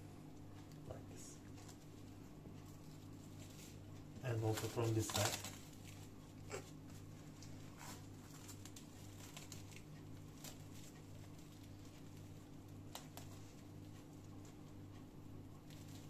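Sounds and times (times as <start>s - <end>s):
low steady hum: 0.0s - 16.0s
plastic cling film crinkling: 1.5s - 14.6s.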